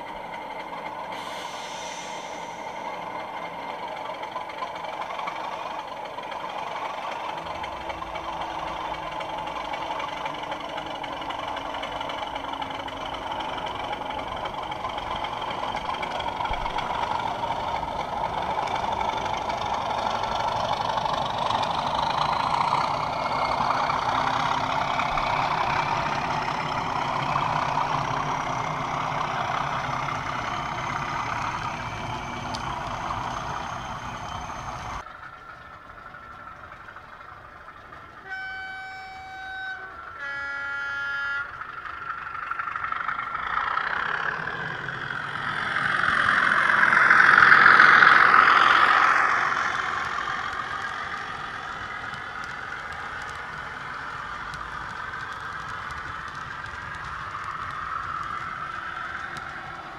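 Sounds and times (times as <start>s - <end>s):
model train diesel engine sound: 0.0s - 59.9s.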